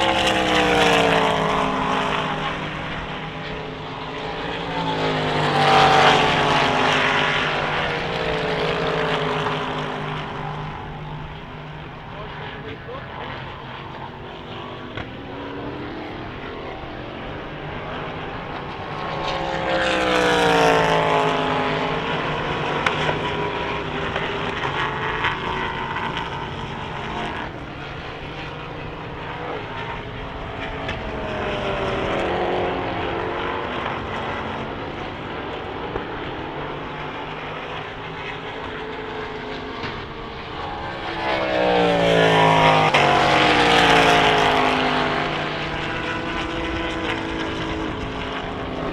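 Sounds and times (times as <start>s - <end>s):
race cars passing at speed: 0.0s - 48.9s.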